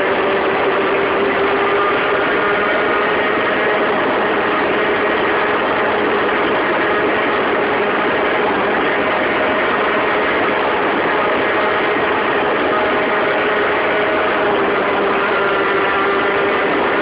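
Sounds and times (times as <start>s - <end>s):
moped engine buzzing: 0.0s - 17.0s.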